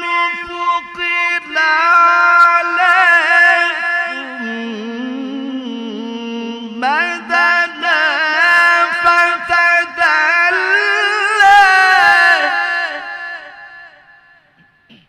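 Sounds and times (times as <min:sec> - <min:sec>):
man reciting melodically: 0:00.0 - 0:14.7.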